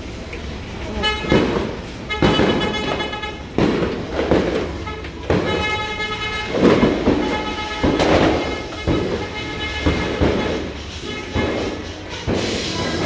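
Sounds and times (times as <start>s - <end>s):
firecrackers banging: 0.0s - 13.0s
horns blaring: 0.7s - 13.0s.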